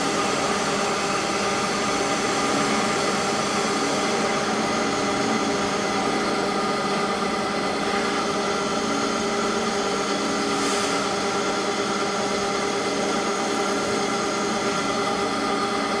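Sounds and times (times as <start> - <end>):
lathe machine hum: 0.0 - 16.0.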